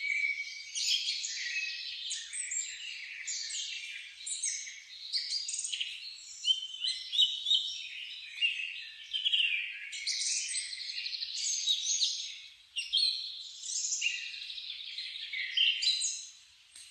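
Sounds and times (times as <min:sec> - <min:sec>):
songbirds chorus: 0:00.0 - 0:16.9.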